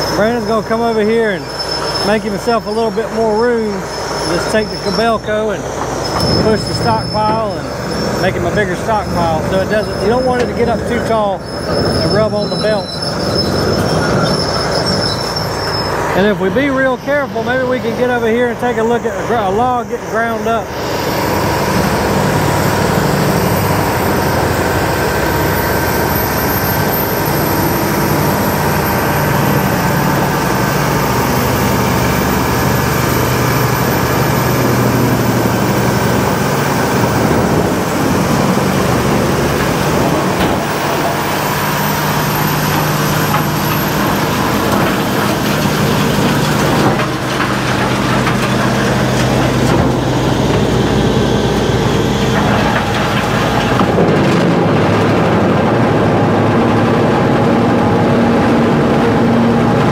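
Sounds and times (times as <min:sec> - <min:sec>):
wood grinder grinding logs: 0:00.0 - 0:59.9.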